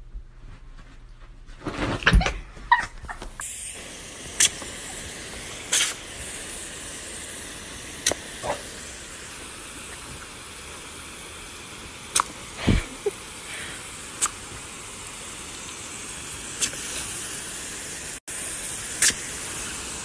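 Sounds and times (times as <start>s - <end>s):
hose nozzle spraying water: 3.1s - 20.0s.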